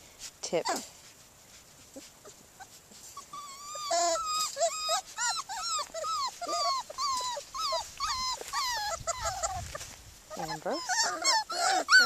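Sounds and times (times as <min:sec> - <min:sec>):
puppy whimpering: 0:01.9 - 0:12.0.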